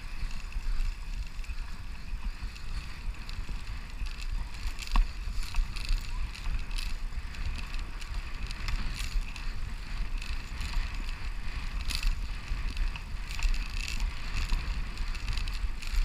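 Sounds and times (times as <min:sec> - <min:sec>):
bicycle clicks and rattles: 0:00.0 - 0:16.0
wind rumbling on microphone: 0:00.0 - 0:16.0.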